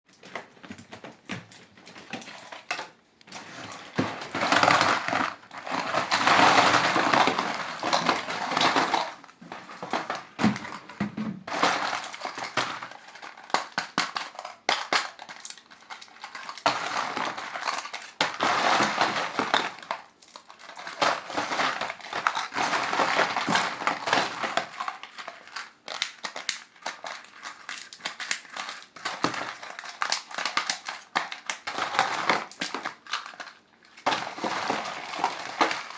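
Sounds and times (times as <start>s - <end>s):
candy wrappers crinkling: 0.1s - 35.9s.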